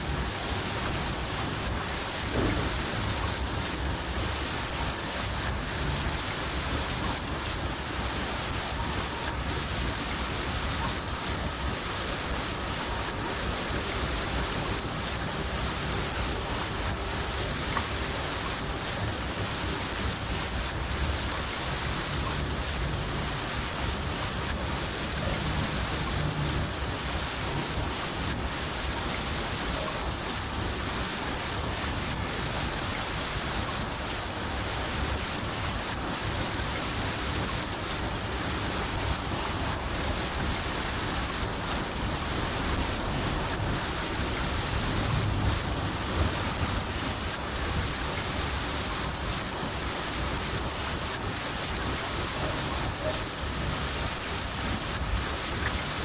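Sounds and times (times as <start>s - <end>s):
cricket chirping: 0.0s - 56.0s
rain hissing: 0.0s - 56.0s.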